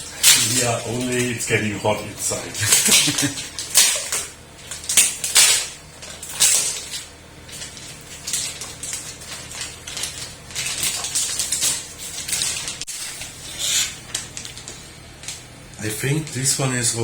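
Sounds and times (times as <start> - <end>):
plastic packaging rustling and crinkling: 0.0 - 17.0.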